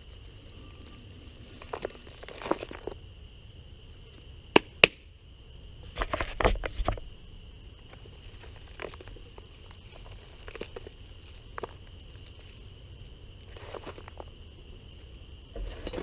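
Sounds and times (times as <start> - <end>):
steady high whine: 0.0 - 16.0.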